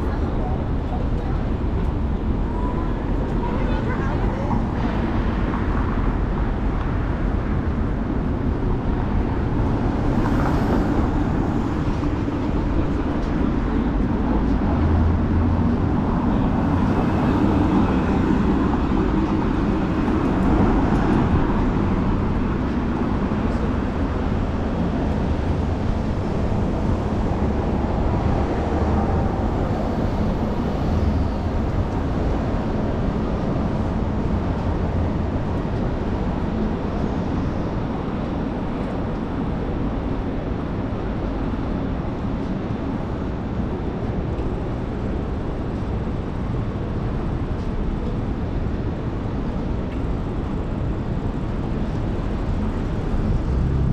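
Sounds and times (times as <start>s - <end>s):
city traffic: 0.0s - 53.9s.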